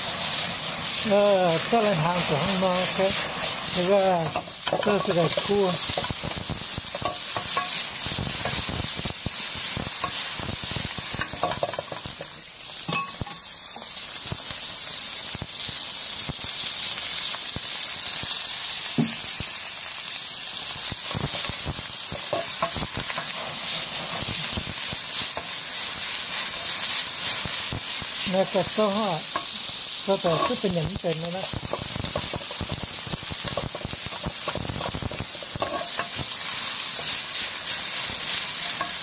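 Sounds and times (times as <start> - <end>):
food sizzling in a pan: 0.0 - 39.0.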